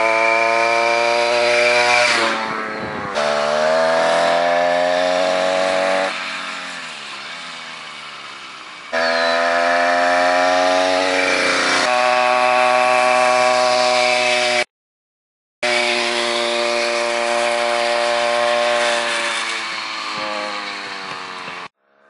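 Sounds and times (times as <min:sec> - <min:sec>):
small gasoline engine running: 0:00.0 - 0:14.6, 0:15.6 - 0:22.0.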